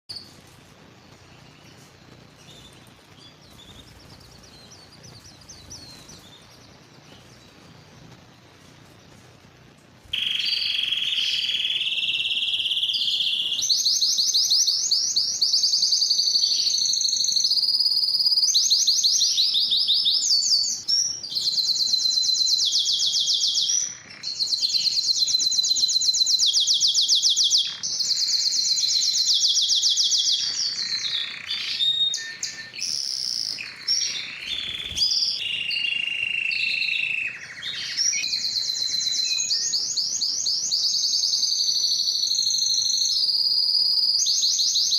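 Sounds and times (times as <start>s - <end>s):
canary singing trills: 0.1s - 44.9s.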